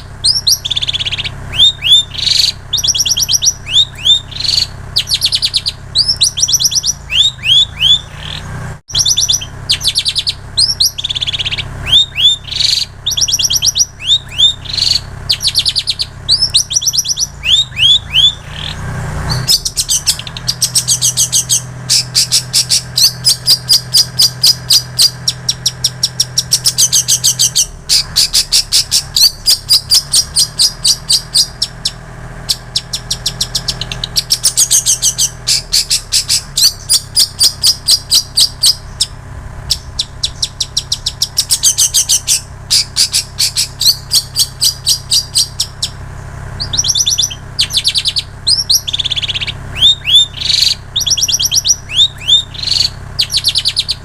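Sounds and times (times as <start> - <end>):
bird singing rapid trills: 0.0 - 54.0
sharp downslurred bird chirps: 0.0 - 54.0.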